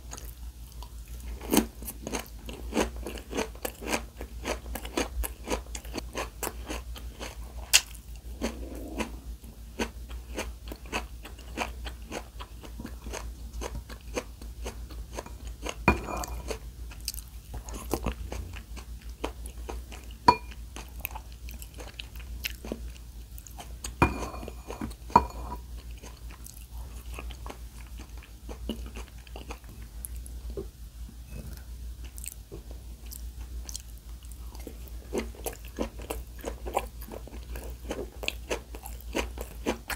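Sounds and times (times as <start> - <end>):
person chewing crunchy food: 0.0 - 30.5, 31.2 - 39.9.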